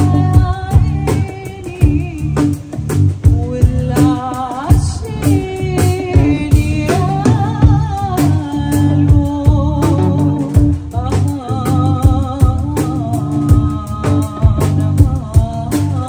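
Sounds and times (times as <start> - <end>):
band music: 0.0 - 16.0
bass: 0.0 - 16.0
person singing: 0.0 - 16.0
steady drum beat: 0.0 - 16.0.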